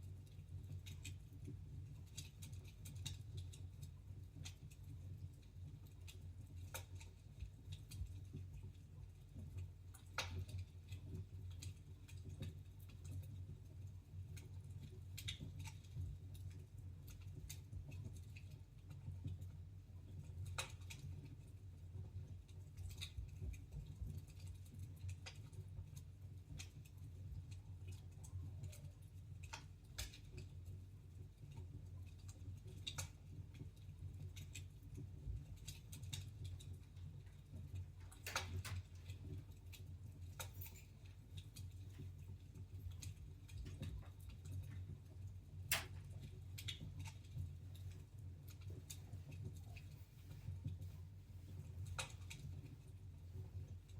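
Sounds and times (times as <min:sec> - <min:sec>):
fire crackling in fireplace: 0:00.0 - 0:53.9
low steady rumble: 0:00.0 - 0:53.9.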